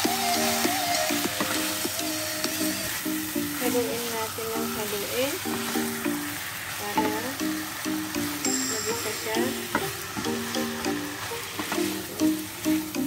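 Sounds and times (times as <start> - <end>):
background music: 0.0 - 13.0
chicken sizzling in a pan: 0.0 - 13.0
wooden spatula stirring: 0.0 - 13.0.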